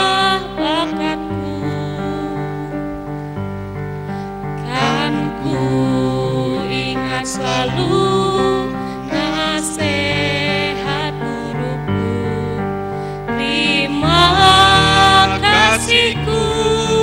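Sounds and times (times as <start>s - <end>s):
choir singing held notes: 0.0s - 2.8s, 4.5s - 17.0s
instrumental accompaniment: 0.0s - 17.0s.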